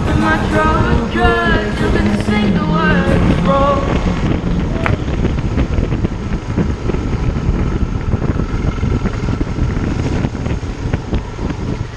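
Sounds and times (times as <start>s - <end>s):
motorcycle engine rumble: 0.0s - 11.9s
wind on microphone: 0.0s - 11.9s.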